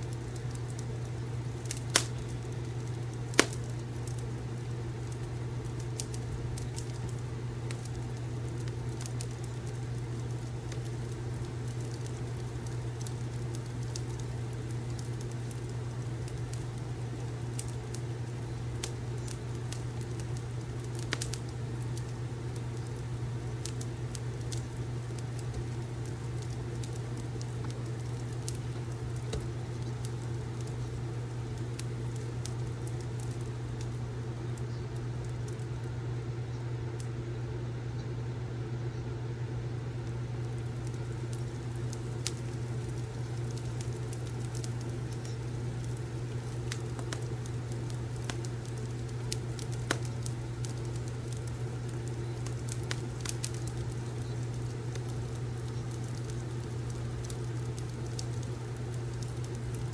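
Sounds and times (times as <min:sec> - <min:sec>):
fireplace crackling: 0:00.0 - 0:37.6, 0:39.2 - 0:59.9
steady low hum: 0:00.0 - 0:59.9.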